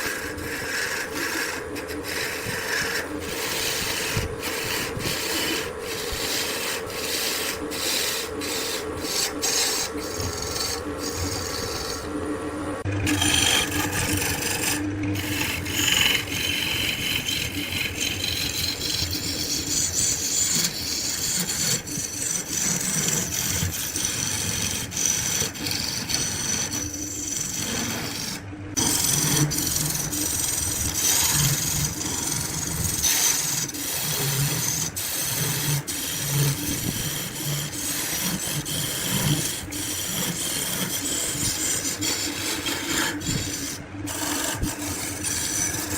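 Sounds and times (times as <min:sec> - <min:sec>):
tool rasping on spinning wood: 0:00.0 - 0:45.9.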